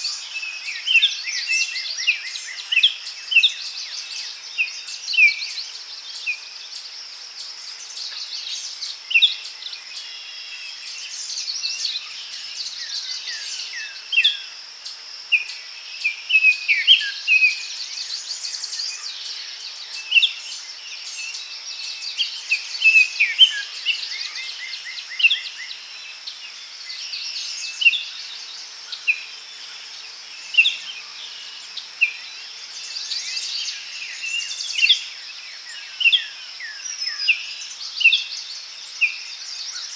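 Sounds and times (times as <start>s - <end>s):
high-pitched insect chorus: 0.0s - 39.9s
songbirds chirping and trilling: 0.0s - 39.9s.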